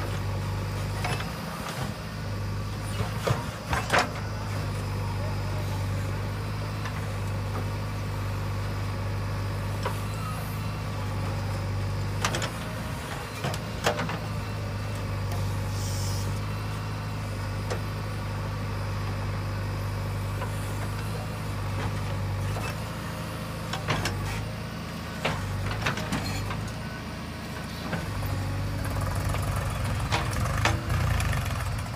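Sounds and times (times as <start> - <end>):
diesel engine under load: 0.0 - 31.9.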